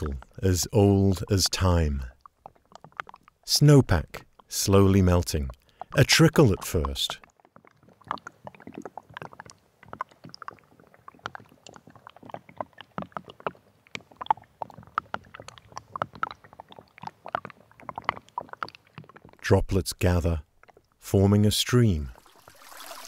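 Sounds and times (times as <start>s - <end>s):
meltwater dripping and trickling: 0.0s - 21.1s, 21.9s - 23.0s.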